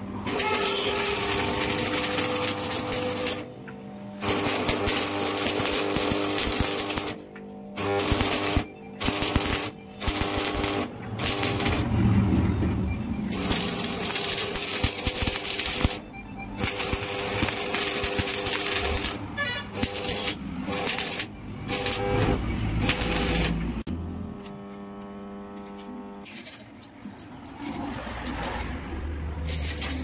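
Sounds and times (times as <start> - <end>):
welding arc crackling: 0.2 - 3.6, 4.2 - 23.9, 26.1 - 30.0.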